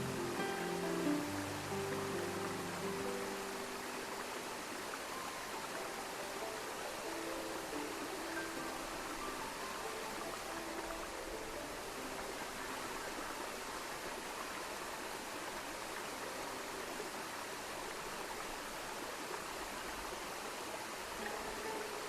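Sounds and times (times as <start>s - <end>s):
stream and waterfall rushing: 0.0s - 22.0s.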